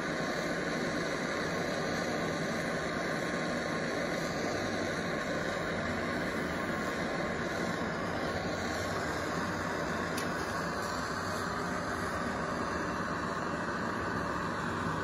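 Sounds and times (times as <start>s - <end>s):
propane torch hissing: 0.0s - 15.0s.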